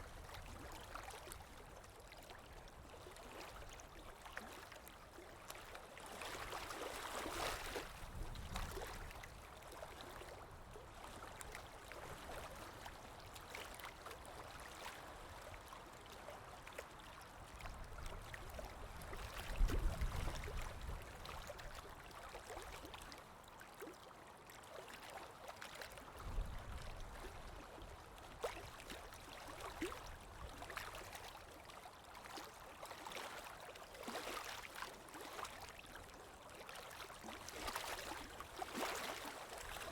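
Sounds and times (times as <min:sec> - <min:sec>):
water drips and splashes: 0:00.0 - 0:39.9.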